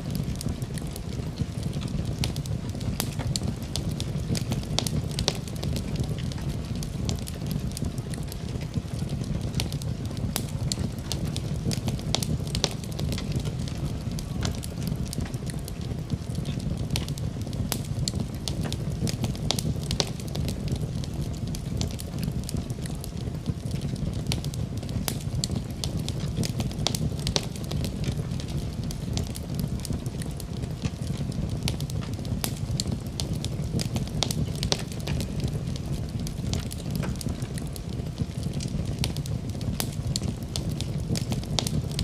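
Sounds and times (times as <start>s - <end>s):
fire crackling and popping: 0.0s - 42.0s
low rush of flame: 0.0s - 42.0s.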